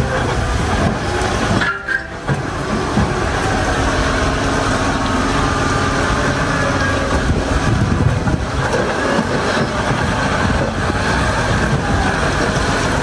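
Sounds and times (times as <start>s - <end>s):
heavy truck engines running: 0.0s - 13.0s.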